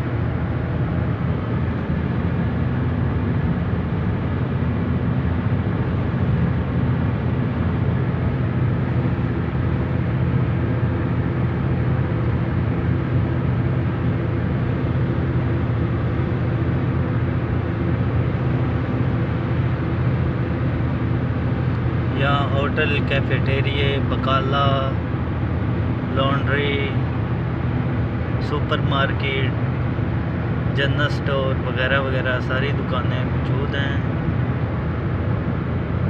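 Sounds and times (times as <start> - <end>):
car road and engine noise: 0.0 - 36.0.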